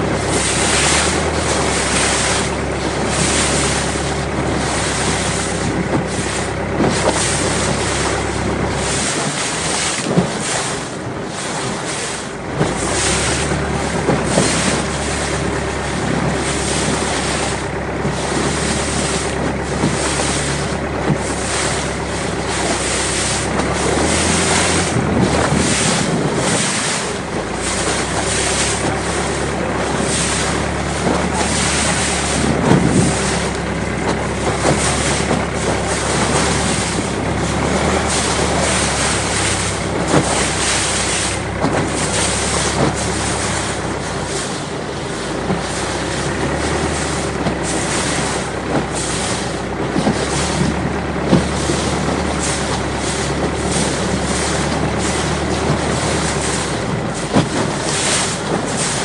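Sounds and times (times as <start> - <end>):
boat engine drone: 0.0 - 59.0
water rushing along hull: 0.0 - 59.0
water slapping: 0.0 - 59.0
wind buffeting microphone: 0.0 - 59.0.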